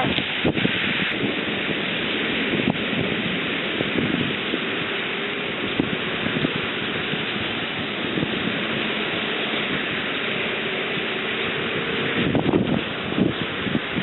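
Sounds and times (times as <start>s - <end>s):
rain: 0.0s - 14.0s
wind on microphone: 0.0s - 14.0s.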